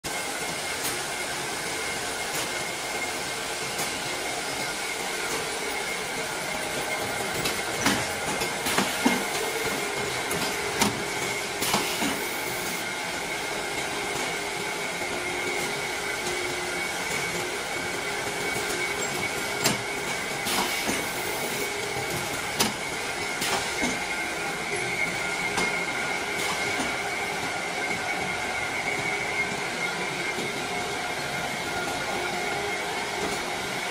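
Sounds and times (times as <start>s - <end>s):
shrink-wrapping machine hissing: 0.3s - 29.6s.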